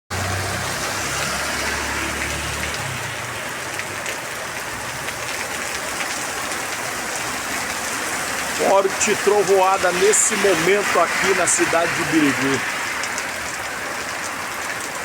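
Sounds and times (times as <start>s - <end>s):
heavy rain pouring: 0.1s - 15.0s.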